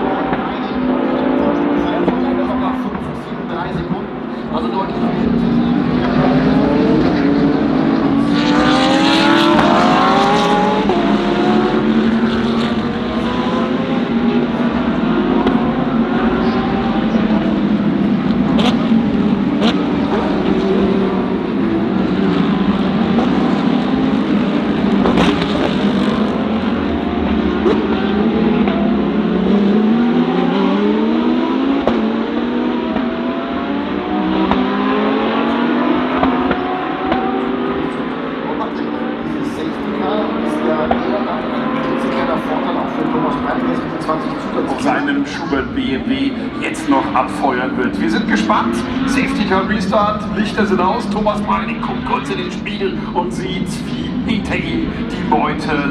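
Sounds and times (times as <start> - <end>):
race car engines passing: 0.0 - 55.9.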